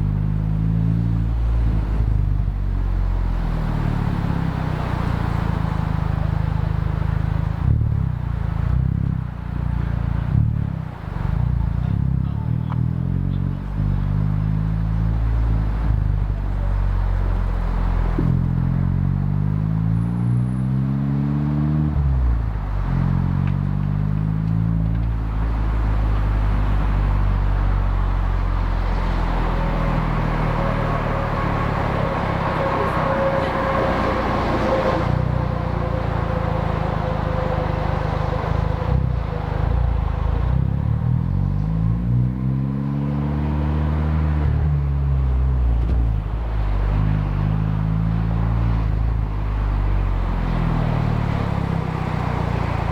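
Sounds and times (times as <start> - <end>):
car exhaust accelerating through gears: 0.0 - 52.9.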